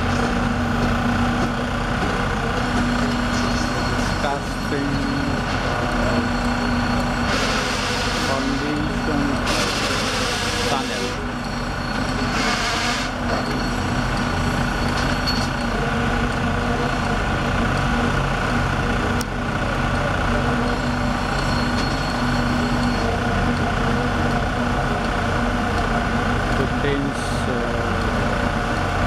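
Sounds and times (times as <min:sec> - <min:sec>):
construction machinery engines running: 0:00.0 - 0:29.0.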